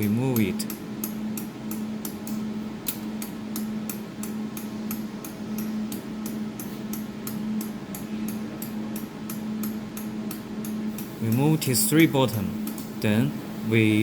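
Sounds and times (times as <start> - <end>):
even ticking: 0.0 - 13.2
welding machine humming: 0.0 - 14.0.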